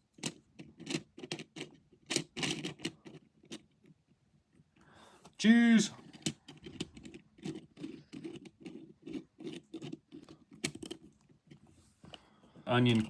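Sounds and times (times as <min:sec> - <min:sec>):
plastic pieces clicking and scraping: 0:00.1 - 0:04.8, 0:05.9 - 0:12.2.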